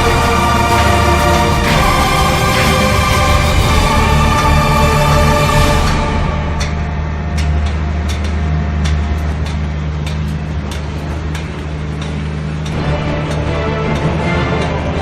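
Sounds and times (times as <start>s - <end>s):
pile driver engine humming: 0.0s - 15.0s.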